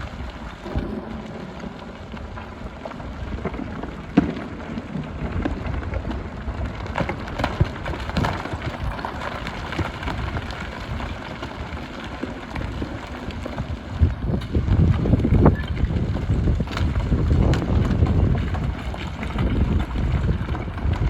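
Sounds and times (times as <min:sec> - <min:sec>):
gravel rattling and scraping: 0:00.0 - 0:21.0.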